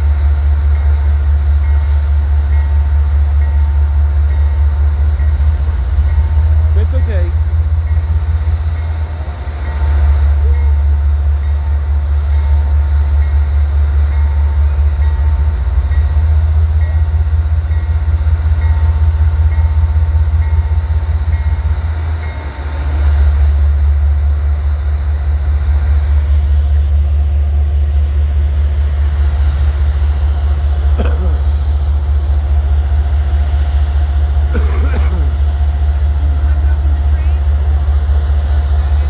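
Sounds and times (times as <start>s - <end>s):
diesel locomotive rumbling: 0.0s - 39.0s.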